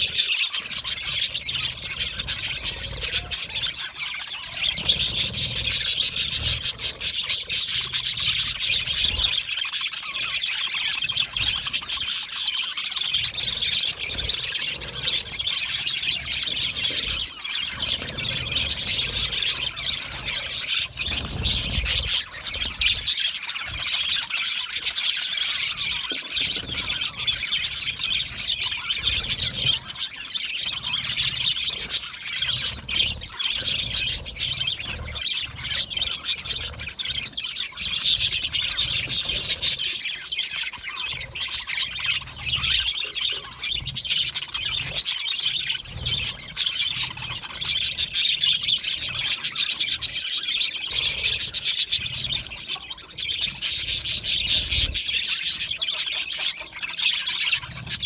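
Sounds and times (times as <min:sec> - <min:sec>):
budgerigars chirping and chattering: 0:00.0 - 0:58.0.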